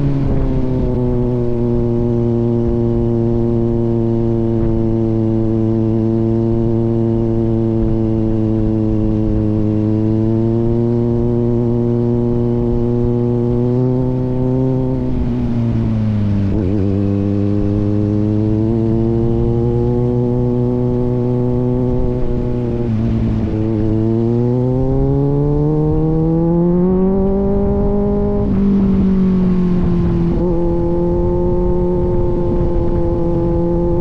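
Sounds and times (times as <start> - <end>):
motorcycle engine while riding: 0.0 - 34.0.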